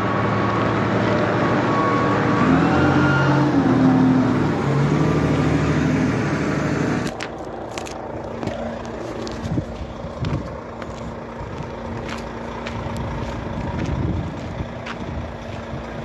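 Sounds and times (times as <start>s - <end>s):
forklift engine revving: 0.0s - 16.0s.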